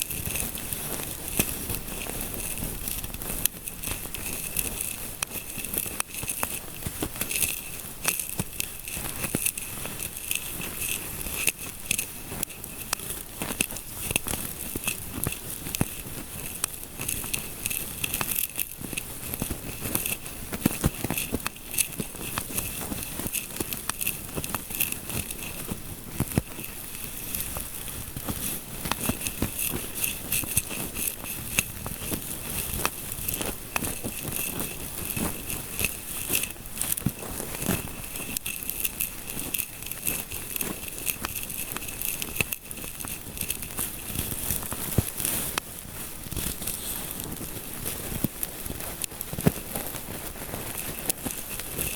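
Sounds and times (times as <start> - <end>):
fingertips scratching through hair: 0.0 - 51.9.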